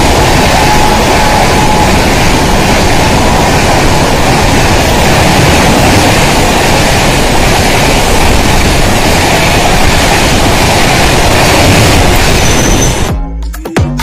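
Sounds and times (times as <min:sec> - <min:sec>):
train wheels rushing on rails: 0:00.0 - 0:13.2.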